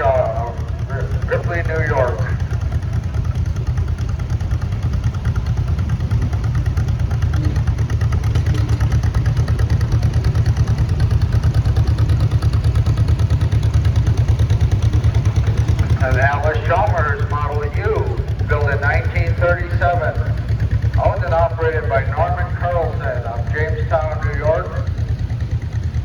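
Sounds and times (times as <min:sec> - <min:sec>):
tractor engine popping exhaust: 0:00.0 - 0:26.0.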